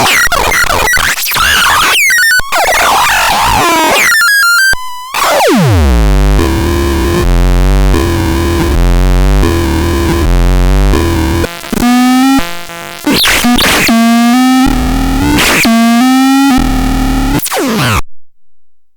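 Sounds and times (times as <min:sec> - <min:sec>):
buzzy synthesizer notes: 0:00.0 - 0:18.0.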